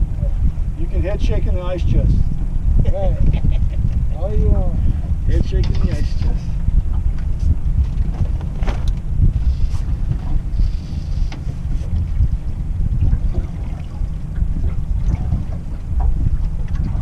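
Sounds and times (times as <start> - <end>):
boat moving on water: 0.0 - 17.0
wind buffeting microphone: 0.0 - 17.0.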